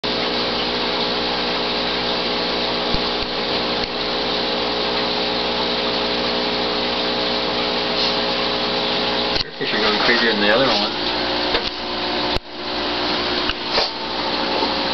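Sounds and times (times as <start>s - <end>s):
pump motor hum: 0.0s - 14.9s
water rushing: 0.0s - 14.9s.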